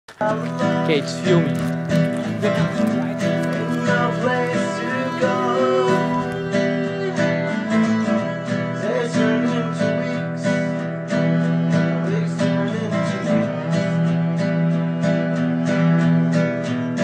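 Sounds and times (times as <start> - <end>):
strummed acoustic guitar music: 0.1 - 17.0.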